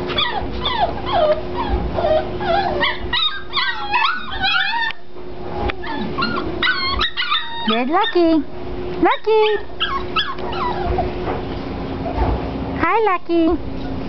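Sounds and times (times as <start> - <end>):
puppies whining and yipping: 0.0 - 8.5, 9.3 - 12.4, 13.7 - 14.0
low steady hum: 0.0 - 14.0.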